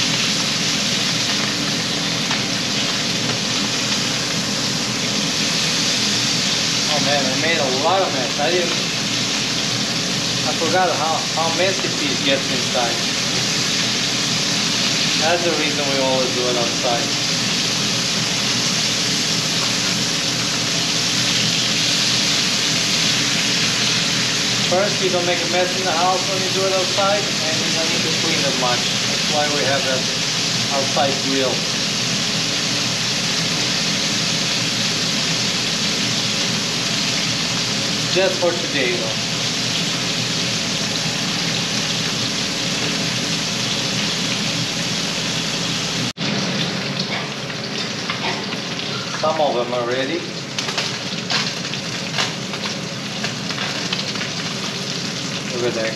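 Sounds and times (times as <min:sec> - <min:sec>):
fish sizzling in a skillet: 0:00.0 - 0:55.9.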